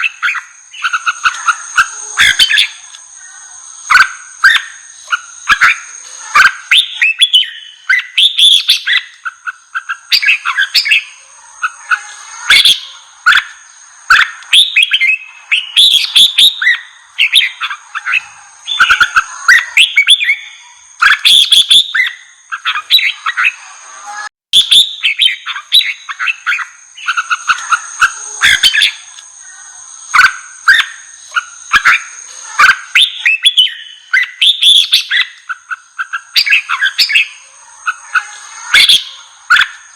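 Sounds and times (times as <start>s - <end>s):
bulbuls singing: 0.0s - 39.9s
steady high-pitched tones: 0.0s - 39.9s.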